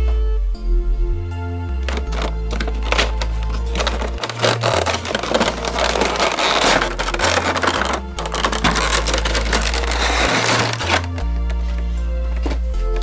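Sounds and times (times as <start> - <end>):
background music with bass line: 0.0 - 13.0
packaging crinkling: 1.8 - 13.0.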